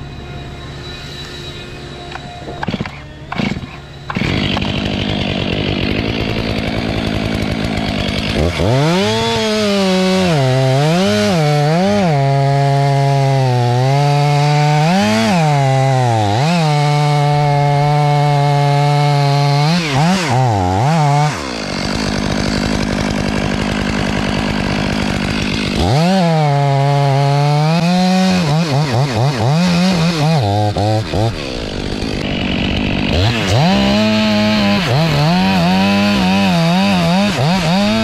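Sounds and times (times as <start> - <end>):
chainsaw cutting wood: 2.1 - 38.0.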